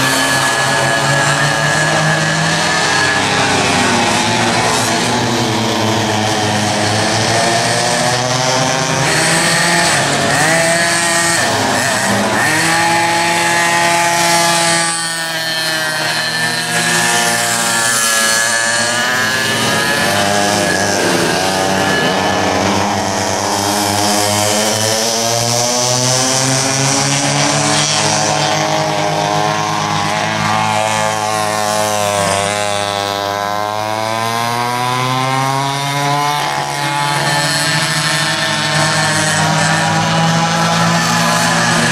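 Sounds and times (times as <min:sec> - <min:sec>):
kart engines racing: 0:00.0 - 0:41.9.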